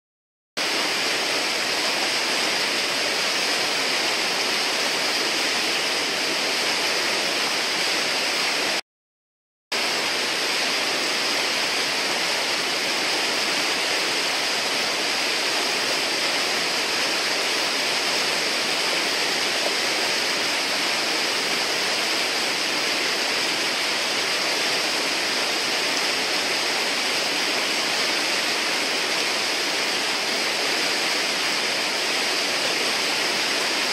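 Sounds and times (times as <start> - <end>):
river rapids rushing: 0.6 - 8.8, 9.8 - 33.9.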